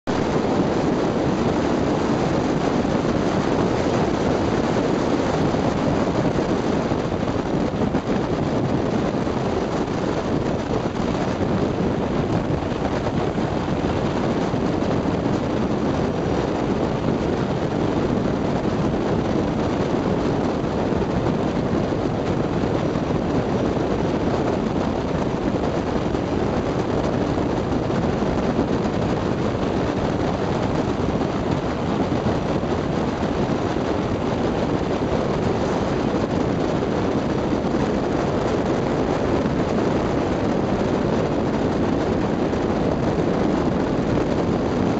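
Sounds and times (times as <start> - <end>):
boat engine running: 0.0 - 44.9
wind buffeting microphone: 0.1 - 44.9.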